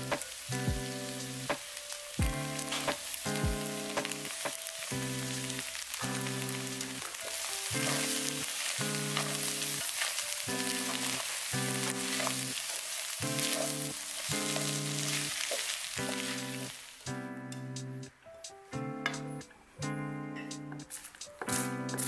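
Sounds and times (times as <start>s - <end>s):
background music: 0.0s - 12.6s, 16.0s - 22.0s
noodles sizzling in a pan: 0.0s - 18.1s, 20.8s - 22.0s.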